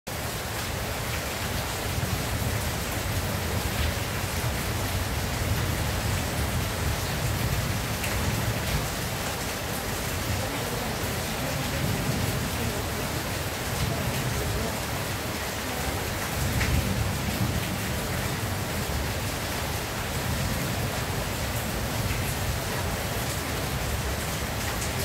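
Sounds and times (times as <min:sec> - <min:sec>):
rain on a tin roof: 0:00.1 - 0:25.0.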